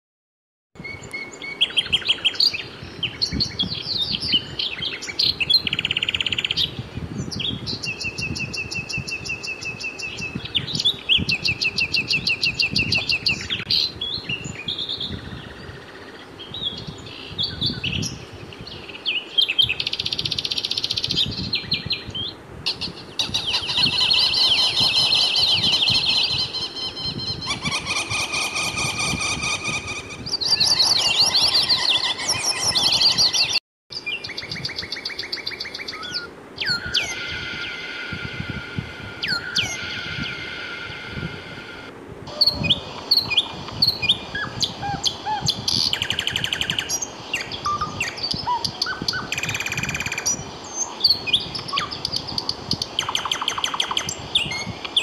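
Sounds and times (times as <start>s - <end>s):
birds chirping and singing: 0.8s - 55.0s.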